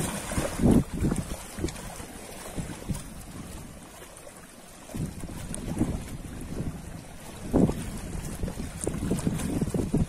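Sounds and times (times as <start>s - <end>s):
wind buffeting microphone: 0.0s - 4.2s, 4.8s - 10.0s
ocean waves washing on shore: 0.0s - 10.0s.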